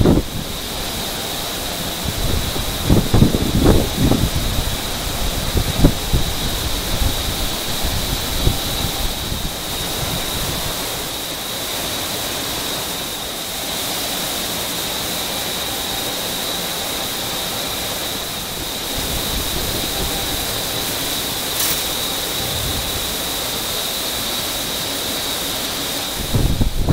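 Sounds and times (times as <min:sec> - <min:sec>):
high whine: 0:00.0 - 0:26.9
industrial machinery roar: 0:00.0 - 0:26.9.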